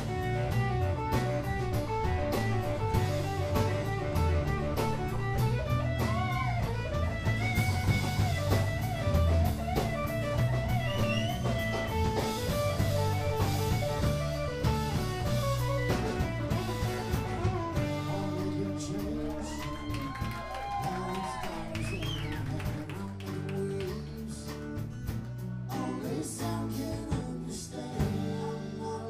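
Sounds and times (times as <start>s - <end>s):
drum kit: 0.0s - 28.9s
acoustic guitar: 0.0s - 29.0s
bass guitar: 0.0s - 29.0s
electric guitar: 0.0s - 29.0s.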